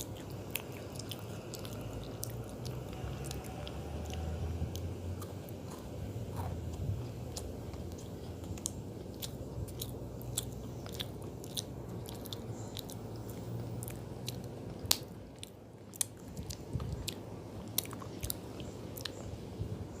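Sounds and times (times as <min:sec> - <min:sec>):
cookie being chewed: 0:00.0 - 0:19.4.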